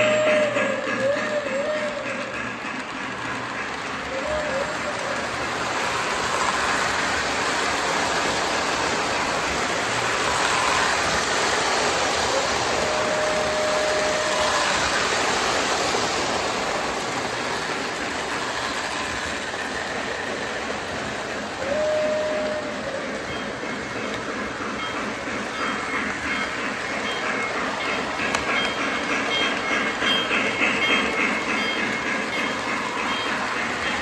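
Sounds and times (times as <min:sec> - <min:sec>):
model train whirring on rails: 0:00.0 - 0:34.0.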